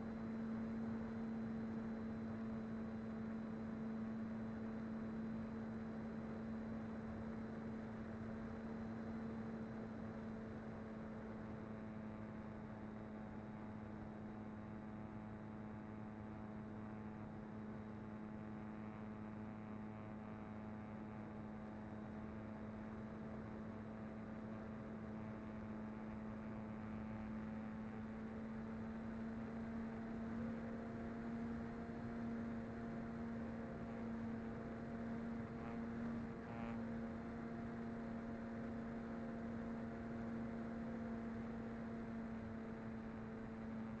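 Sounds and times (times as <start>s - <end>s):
model plane motor droning: 0.3s - 44.0s.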